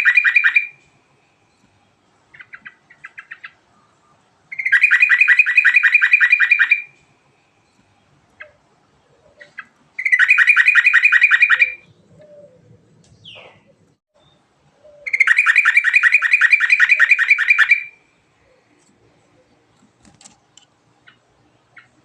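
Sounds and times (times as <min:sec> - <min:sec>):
bird singing rolling trills: 0:00.0 - 0:19.7.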